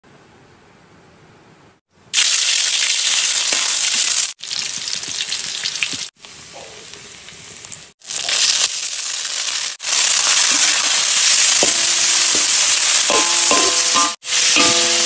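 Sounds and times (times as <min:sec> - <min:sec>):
hot oil sizzling in wok: 0:02.1 - 0:15.0.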